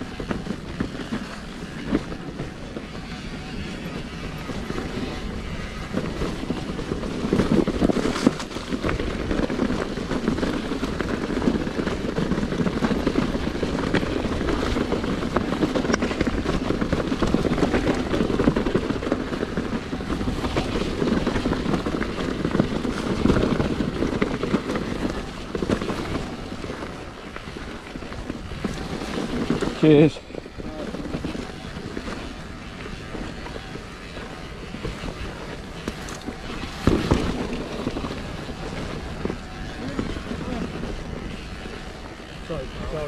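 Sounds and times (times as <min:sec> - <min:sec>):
bike tyres rumbling on stony ground: 0:00.0 - 0:43.0
stones and bike rattling: 0:00.0 - 0:43.0.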